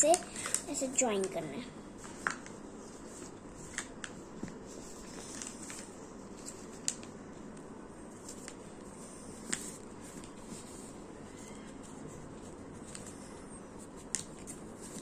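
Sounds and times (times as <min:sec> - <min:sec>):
paper being folded by hand: 0:00.0 - 0:15.0.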